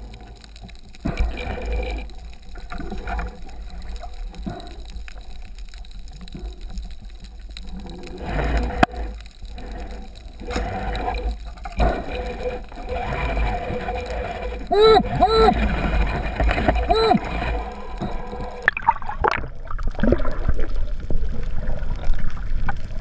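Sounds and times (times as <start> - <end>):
underwater water rumbling: 0.0 - 23.0.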